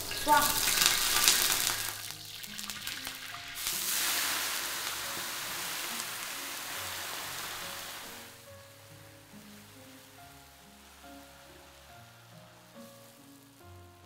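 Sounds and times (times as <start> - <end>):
greens sizzling in hot oil: 0.0 - 14.0.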